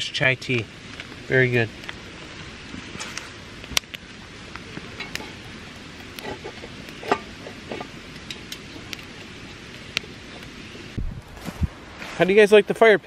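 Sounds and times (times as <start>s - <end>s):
campfire crackling and popping: 0.0s - 13.0s
low steady fire hiss: 0.0s - 13.0s.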